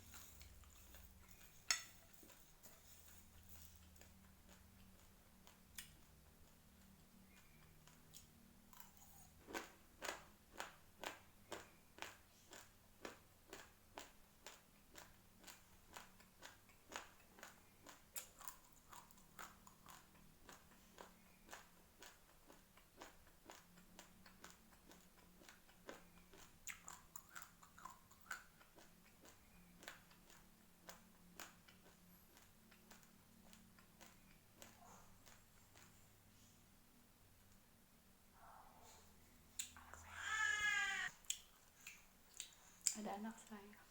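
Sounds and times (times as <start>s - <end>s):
chewing crunchy rice: 0.0s - 36.3s.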